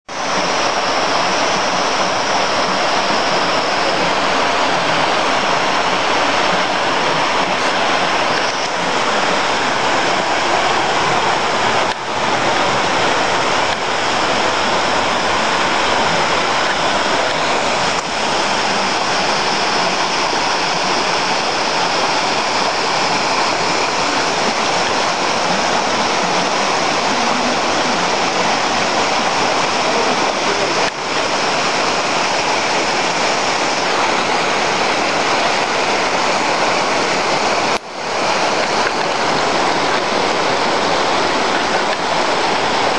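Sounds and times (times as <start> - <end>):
stream rushing over boulders: 0.0 - 42.9.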